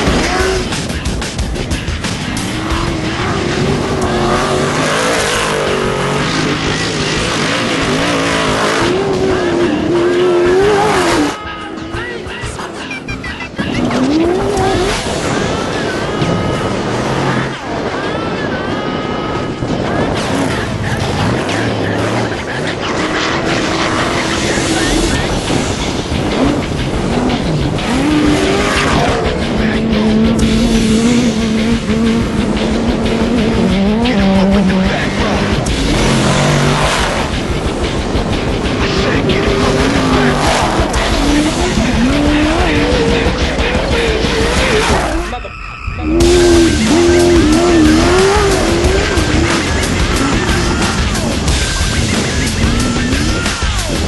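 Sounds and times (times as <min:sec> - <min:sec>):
loud rushing noise: 0:00.0 - 0:11.4, 0:19.8 - 0:54.0
race vehicle engine running hard: 0:00.0 - 0:54.0.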